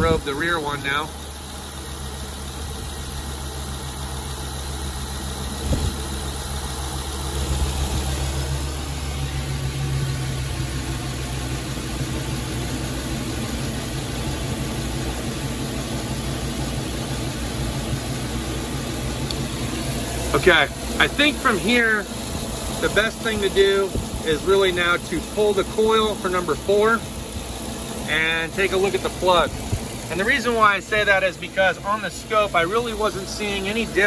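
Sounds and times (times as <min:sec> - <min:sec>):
van engine idling with misfire: 0:00.0 - 0:34.0.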